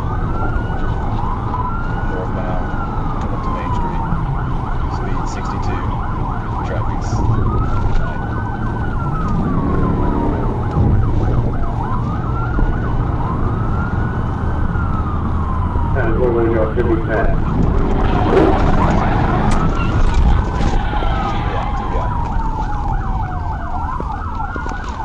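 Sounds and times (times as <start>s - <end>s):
engine and road noise: 0.0s - 25.0s
police siren wail: 0.0s - 25.0s
police siren yelp: 0.0s - 25.0s.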